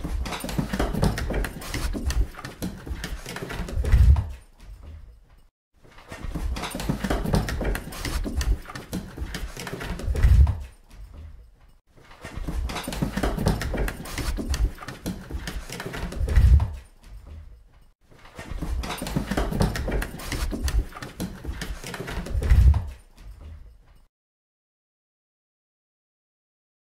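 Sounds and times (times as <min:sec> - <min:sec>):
dog running down wooden stairs: 0:00.0 - 0:24.1.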